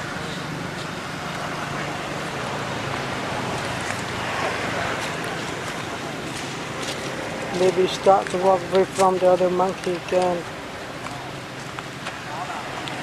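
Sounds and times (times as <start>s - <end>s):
low even outdoor hum: 0.0s - 13.0s.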